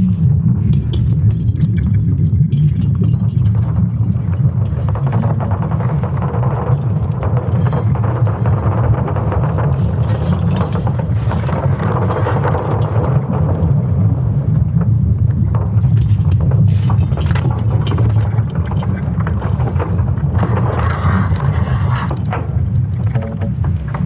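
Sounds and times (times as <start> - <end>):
deep steady rumble: 0.0 - 24.0
scattered crackles: 0.0 - 24.0.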